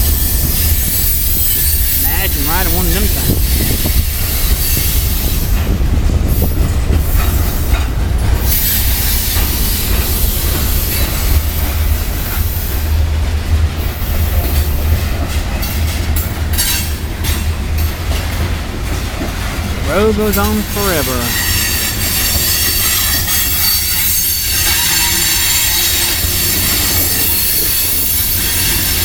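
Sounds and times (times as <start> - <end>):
wheels clicking over rail joints: 0.0 - 20.6, 21.3 - 29.0
train rolling past: 0.0 - 29.0.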